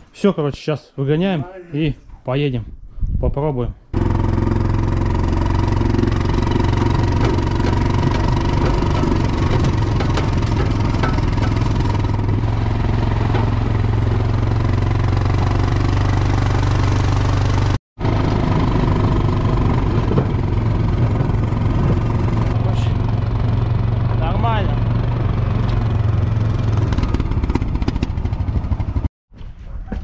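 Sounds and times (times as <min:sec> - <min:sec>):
quad bike engine running: 0:04.0 - 0:29.1.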